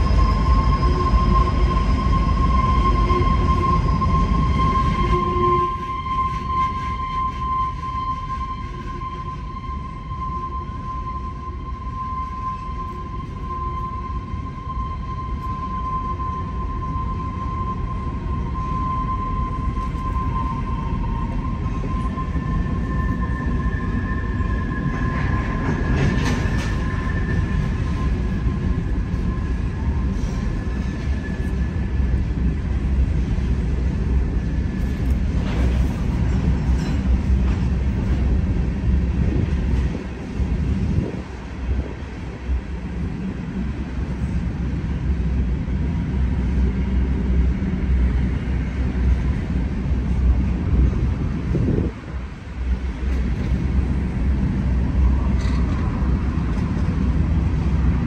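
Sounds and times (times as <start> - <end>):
train clanks: 0.0 - 58.0
train wheels rumbling on rail: 0.0 - 58.0.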